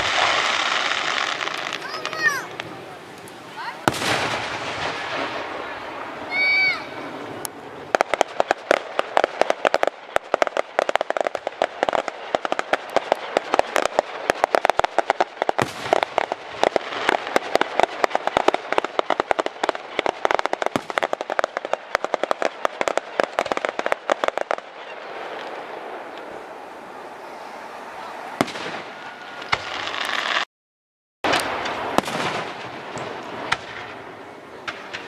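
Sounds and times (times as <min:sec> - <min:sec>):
fireworks crackling pops: 0:00.0 - 0:27.4, 0:28.0 - 0:30.5, 0:31.2 - 0:35.0.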